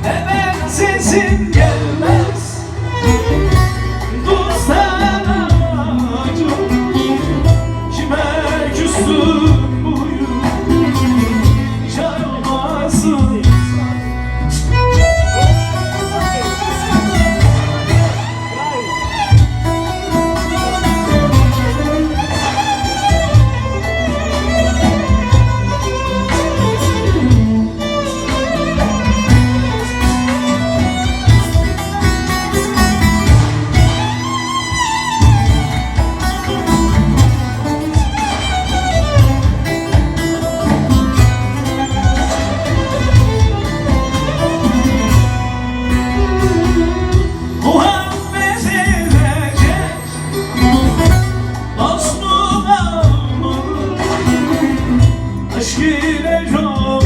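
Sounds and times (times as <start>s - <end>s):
bowed violin melody: 0.0s - 12.3s, 14.0s - 55.8s
plucked strings: 0.0s - 57.0s
steady bass beat: 0.0s - 57.0s.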